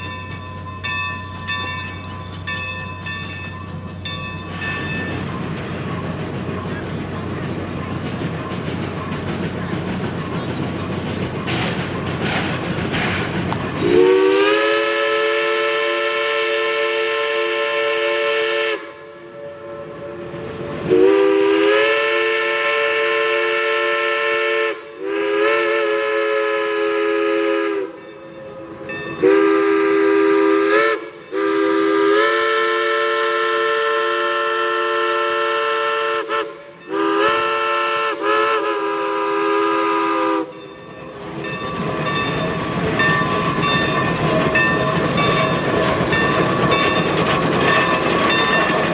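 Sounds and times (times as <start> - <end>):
steam locomotive chime whistle: 0.0 - 12.2, 13.5 - 48.9.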